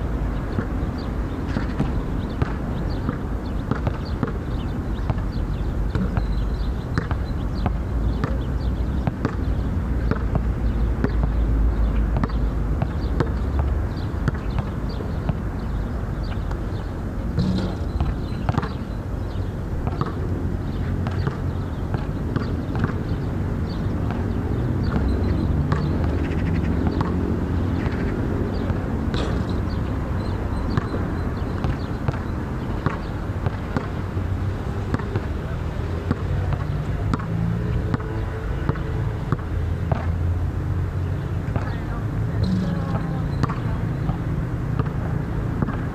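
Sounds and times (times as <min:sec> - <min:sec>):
basketball bouncing: 0:01.5 - 0:16.7, 0:17.3 - 0:34.1, 0:34.9 - 0:35.3, 0:36.1 - 0:40.2, 0:41.4 - 0:45.9.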